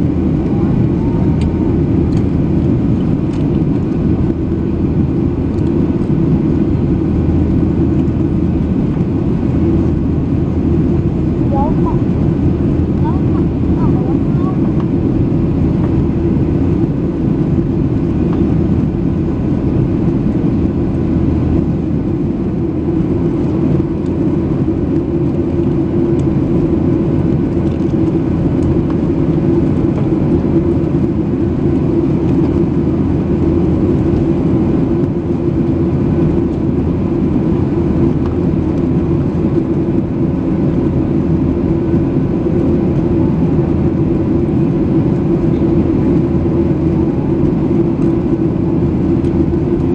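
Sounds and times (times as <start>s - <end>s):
jet engine drone in cabin: 0.0s - 49.9s.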